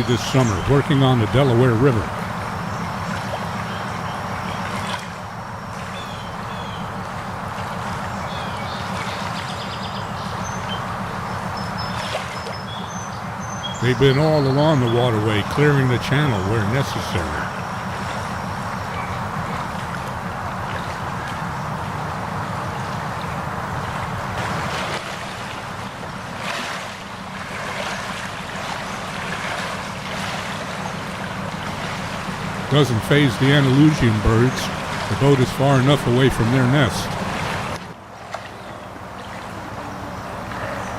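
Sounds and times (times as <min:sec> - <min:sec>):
high bird calls: 0:00.0 - 0:37.8
moving water: 0:00.0 - 0:40.9
steady low rumble: 0:00.0 - 0:40.9.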